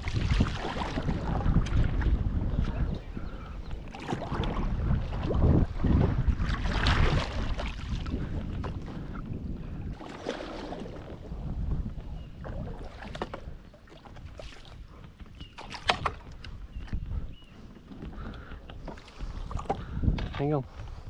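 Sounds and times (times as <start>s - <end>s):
water sloshing around kayak: 0.0s - 21.0s
wind rumbling on microphone: 0.0s - 21.0s.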